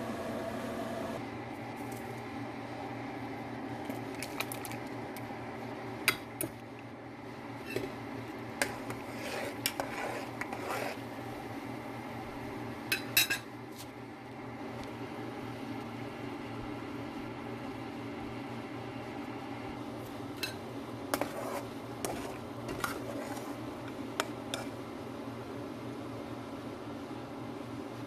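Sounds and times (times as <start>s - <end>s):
steady hum: 0.0s - 27.1s.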